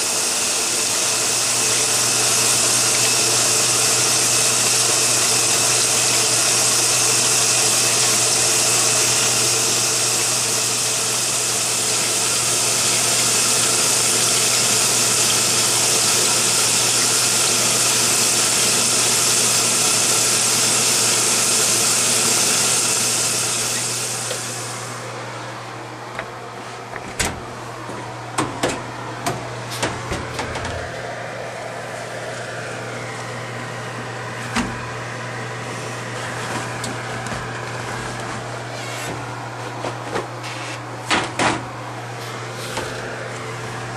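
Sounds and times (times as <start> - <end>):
washing machine hiss: 0.0 - 25.6, 28.8 - 41.1
washing machine hum: 0.0 - 43.9.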